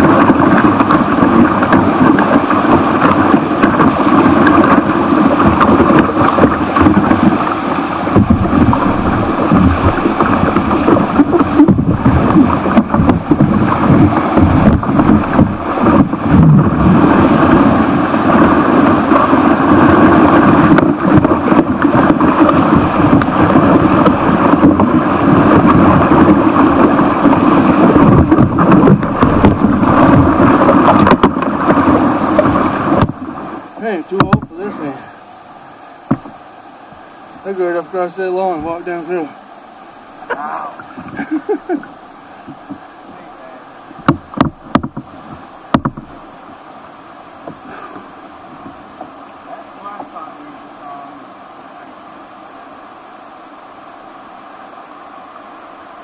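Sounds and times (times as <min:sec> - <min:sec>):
water knocking against boat: 0:00.0 - 0:35.2, 0:36.0 - 0:36.4, 0:40.3 - 0:46.4, 0:47.4 - 0:51.0
rushing whitewater: 0:00.0 - 0:56.0.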